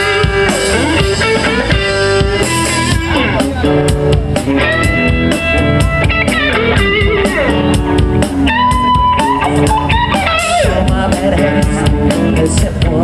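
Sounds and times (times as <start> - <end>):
bass guitar: 0.0 - 13.0
drum kit beat: 0.0 - 13.0
electric guitar lead: 0.0 - 13.0.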